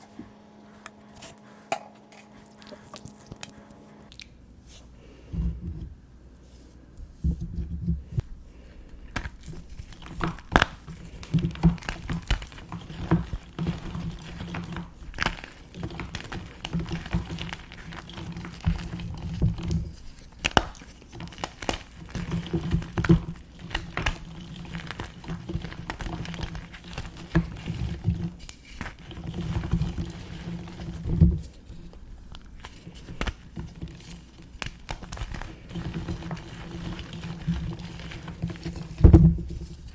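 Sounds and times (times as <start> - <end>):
crumbling powder rustling: 0.0 - 4.9, 8.0 - 39.9.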